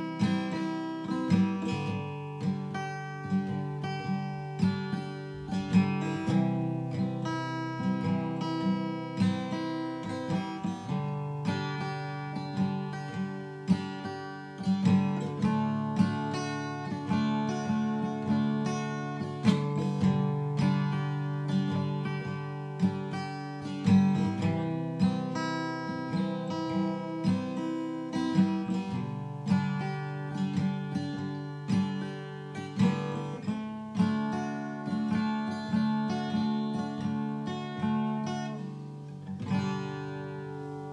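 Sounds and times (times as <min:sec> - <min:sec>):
acoustic guitar music: 0:00.0 - 0:40.9.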